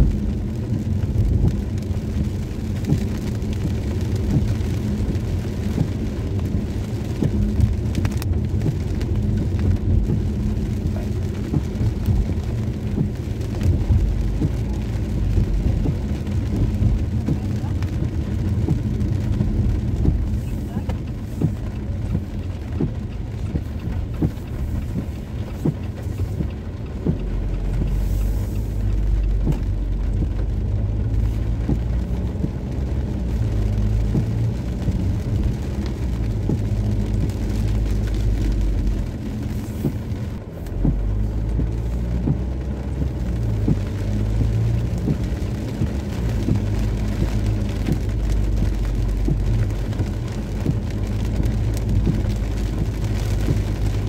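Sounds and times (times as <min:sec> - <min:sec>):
car engine and tyres on wet road: 0:00.0 - 0:54.0
raindrops ticking on windscreen: 0:00.0 - 0:54.0.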